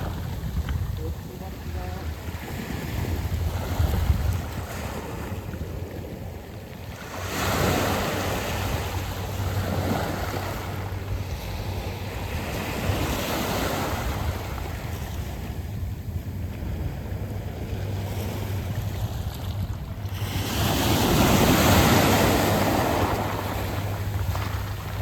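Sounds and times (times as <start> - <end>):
waves washing over pebbles: 0.0 - 25.0
wind rumble on microphone: 0.0 - 25.0.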